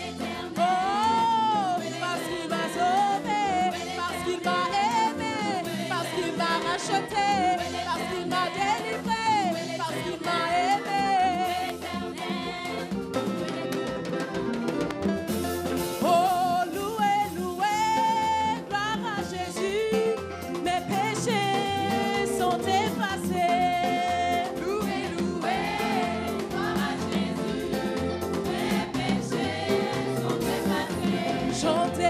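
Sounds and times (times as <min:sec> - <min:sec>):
voices singing gospel: 0:00.0 - 0:14.3, 0:15.9 - 0:32.0
band playing steady beat: 0:00.0 - 0:32.0.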